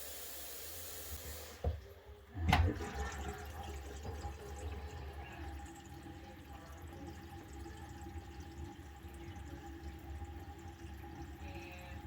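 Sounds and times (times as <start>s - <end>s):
water draining in a sink: 0.0s - 12.0s.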